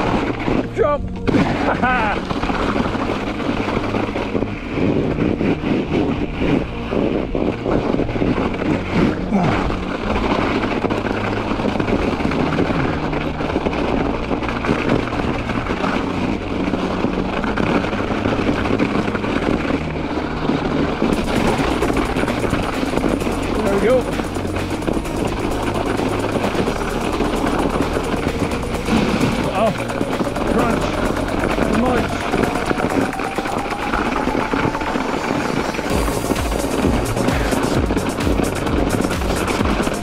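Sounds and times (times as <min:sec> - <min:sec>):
bike knocking and rattling: 0:00.0 - 0:40.0
wind and tyre rumble: 0:00.0 - 0:40.0.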